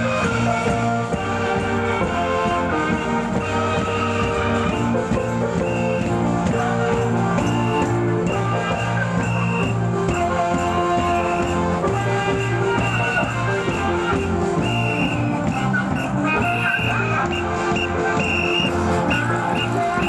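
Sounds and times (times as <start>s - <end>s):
held melody notes: 0.0s - 20.0s
steady drum beat: 0.0s - 20.0s.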